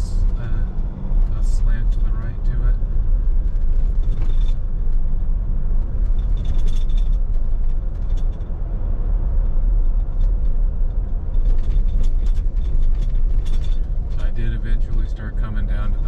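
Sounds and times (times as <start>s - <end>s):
faint rattles: 0.0s - 8.6s, 9.4s - 16.0s
engine and tyre rumble: 0.0s - 16.0s.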